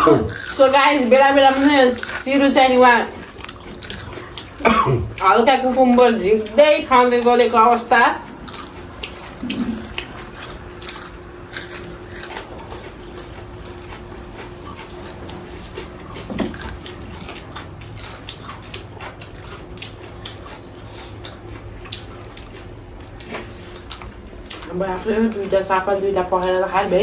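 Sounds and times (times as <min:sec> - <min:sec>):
chewing crunches and clicks: 0:00.0 - 0:25.7
steady low hum: 0:00.0 - 0:27.0.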